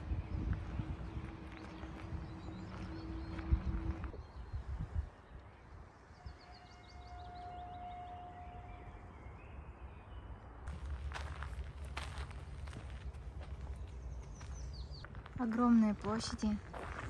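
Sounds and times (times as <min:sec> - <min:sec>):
birds chirping: 0:00.0 - 0:16.7.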